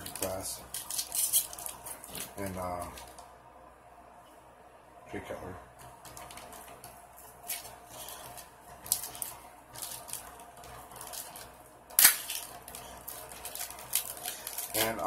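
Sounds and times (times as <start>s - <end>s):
foil wrapper crinkling: 0.0s - 3.2s, 6.0s - 15.0s.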